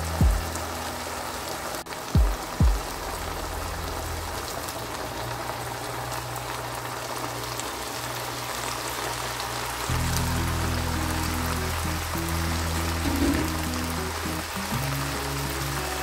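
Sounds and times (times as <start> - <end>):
sauce simmering in a pan: 0.0 - 16.0.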